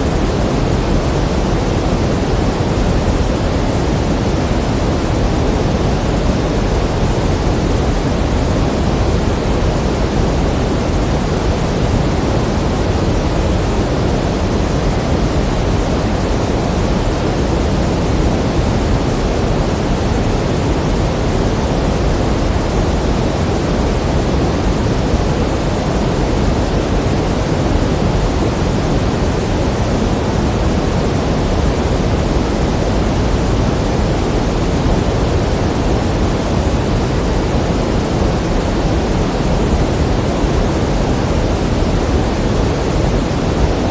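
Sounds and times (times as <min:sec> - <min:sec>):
pink noise hiss: 0:00.0 - 0:43.9.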